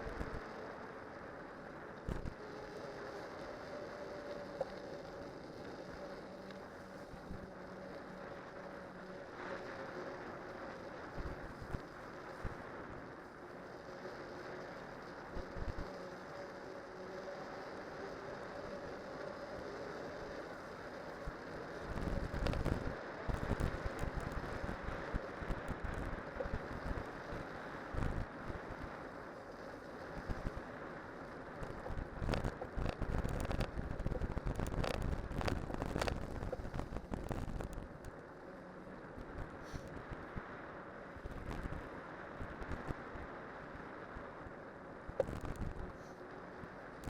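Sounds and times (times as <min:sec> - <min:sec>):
wind and tyre noise: 0:00.0 - 0:47.0.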